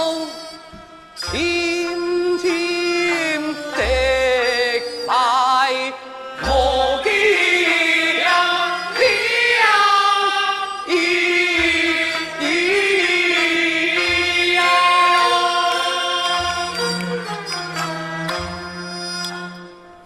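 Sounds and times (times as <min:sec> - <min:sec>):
opera singing over orchestra: 0:00.0 - 0:17.8.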